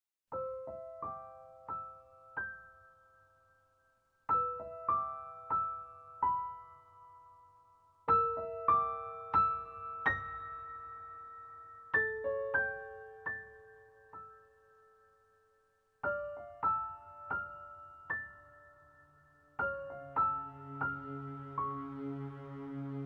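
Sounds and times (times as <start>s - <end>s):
slow gentle piano music: 0.3s - 23.0s.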